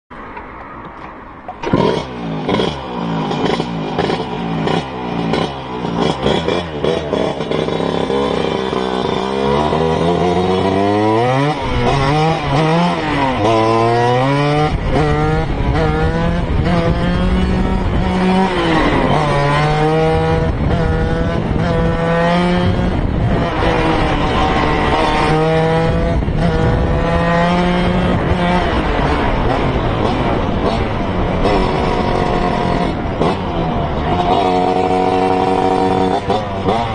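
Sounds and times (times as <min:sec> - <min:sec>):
scooter engine revving: 0:01.6 - 0:36.9.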